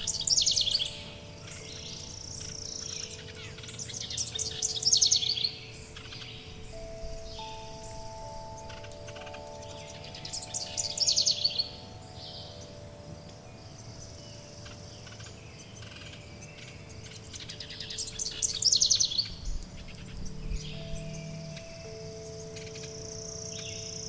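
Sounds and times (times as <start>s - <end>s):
songbird trilling: 0.0s - 24.0s
wind chime tones: 0.0s - 24.0s.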